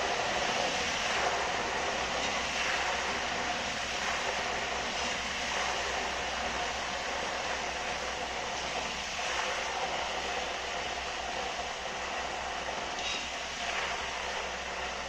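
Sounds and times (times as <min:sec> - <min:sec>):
chips sizzling in hot oil: 0:00.0 - 0:15.0.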